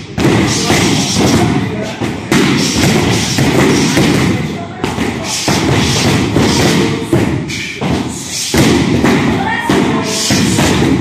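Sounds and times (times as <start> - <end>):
punches and kicks thudding on pads: 0.0 - 11.0.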